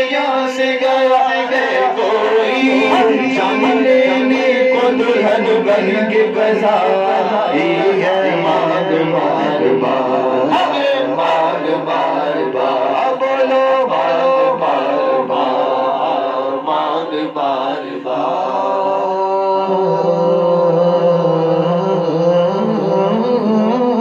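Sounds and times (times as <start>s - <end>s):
men singing devotional chant: 0.0s - 24.0s.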